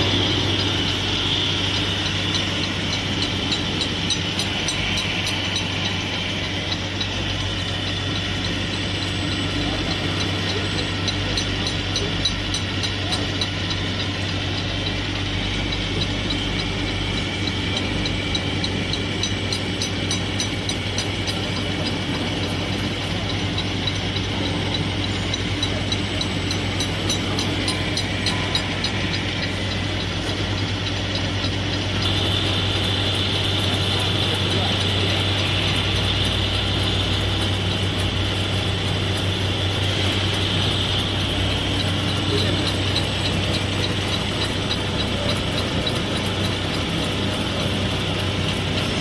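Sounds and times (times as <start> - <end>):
milling machine humming: 0.0 - 49.0.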